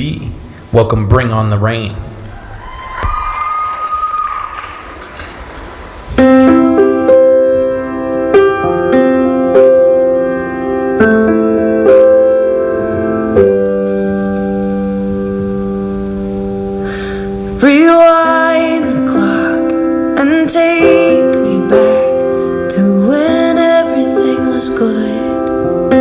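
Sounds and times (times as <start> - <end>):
piano chords: 2.0 - 26.0.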